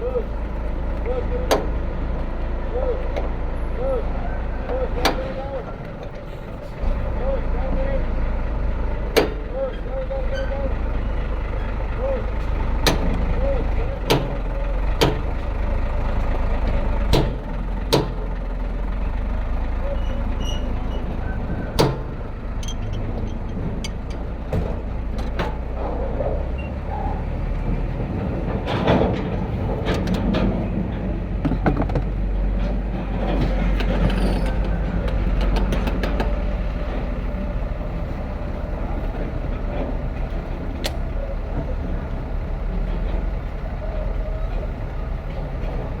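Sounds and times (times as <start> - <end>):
diesel engine rumbling: 0.0 - 46.0.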